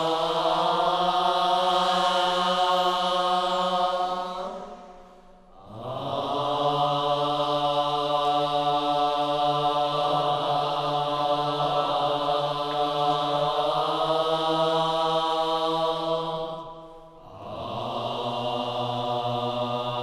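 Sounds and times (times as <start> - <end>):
low chanted vocal drone: 0.0 - 20.0.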